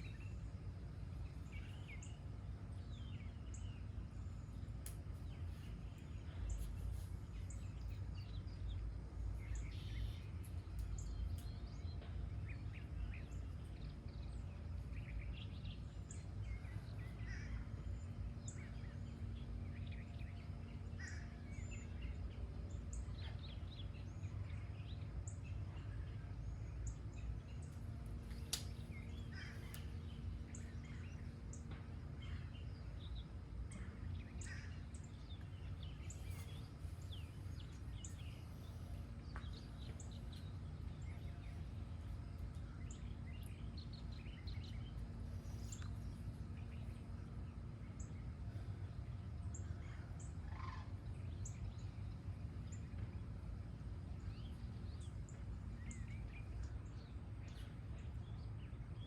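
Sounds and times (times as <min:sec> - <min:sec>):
birds chirping and singing: 0:00.0 - 0:53.0
low background rumble: 0:00.0 - 0:59.0.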